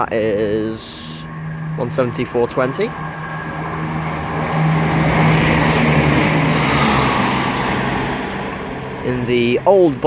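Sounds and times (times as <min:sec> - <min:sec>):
diesel engine drone: 0:00.0 - 0:10.0
train wheel and rail noise: 0:00.0 - 0:10.0.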